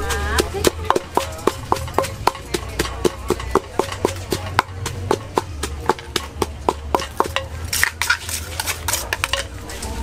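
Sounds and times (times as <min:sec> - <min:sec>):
pestle pounding in mortar: 0:00.0 - 0:09.6
pestle scraping in mortar: 0:00.0 - 0:10.0.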